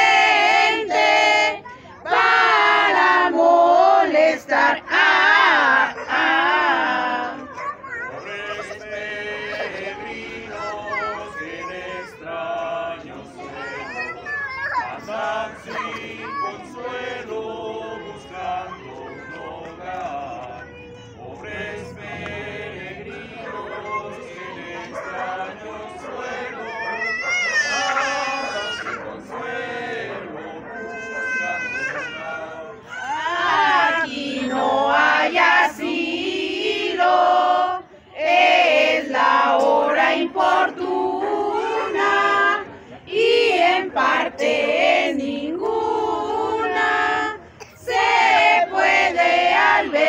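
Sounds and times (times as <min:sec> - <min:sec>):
group singing unaccompanied: 0:00.0 - 0:50.0.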